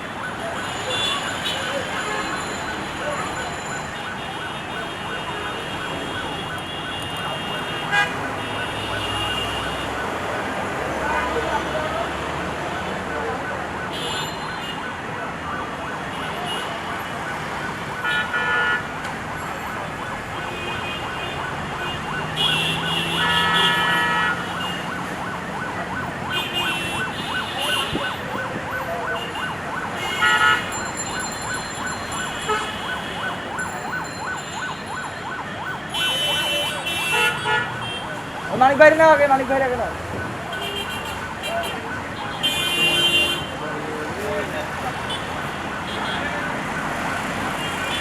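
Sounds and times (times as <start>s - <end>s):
siren: 0.0s - 48.0s
traffic engines running: 0.0s - 48.0s.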